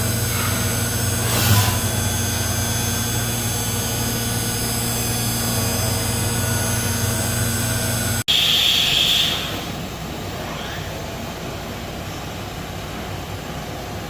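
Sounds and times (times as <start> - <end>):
machine whine over low hum: 0.0 - 14.0.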